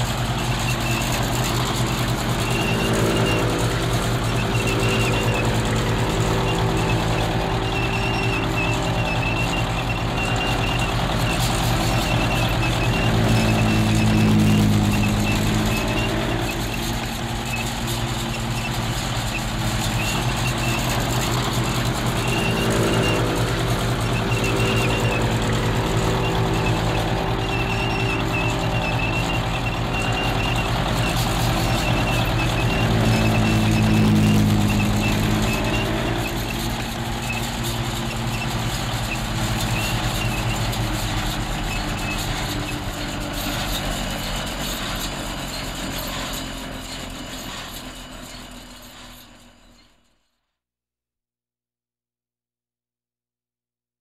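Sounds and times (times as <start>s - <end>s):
tank engine humming: 0.0s - 50.0s.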